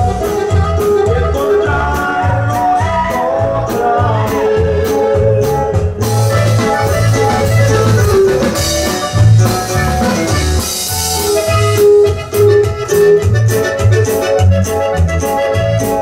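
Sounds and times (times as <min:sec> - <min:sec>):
deep bass line: 0:00.0 - 0:16.0
drums and cymbals: 0:00.0 - 0:16.0
keyboard melody: 0:00.0 - 0:16.0.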